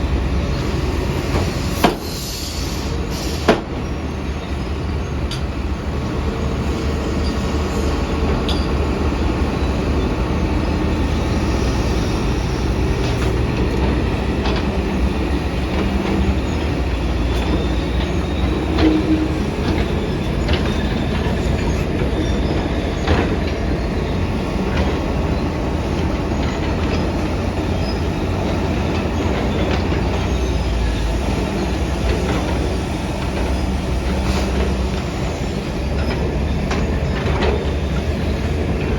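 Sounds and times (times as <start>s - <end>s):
diesel construction machinery running: 0.0s - 38.9s.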